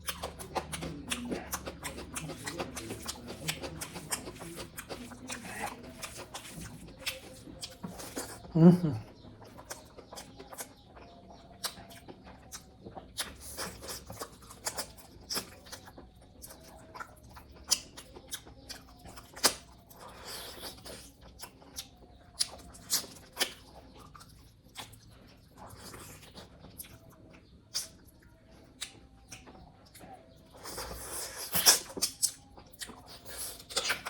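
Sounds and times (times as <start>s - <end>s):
wet clicks and lip-smacks: 0.0s - 8.5s, 9.4s - 20.0s, 20.7s - 30.5s, 31.5s - 34.0s
mouth chewing sounds: 0.0s - 34.0s.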